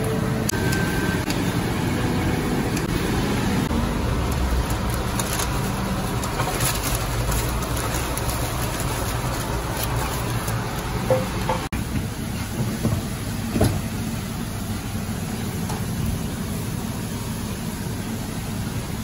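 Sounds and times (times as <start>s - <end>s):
kitchen machinery humming: 0.0s - 19.0s.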